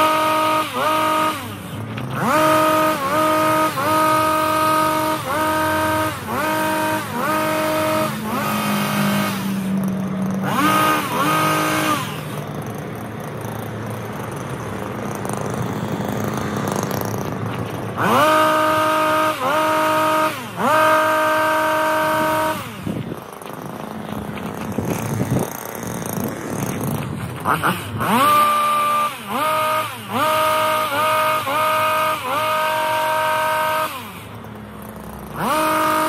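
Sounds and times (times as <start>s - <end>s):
hedge trimmer engine revving: 0.0s - 36.0s.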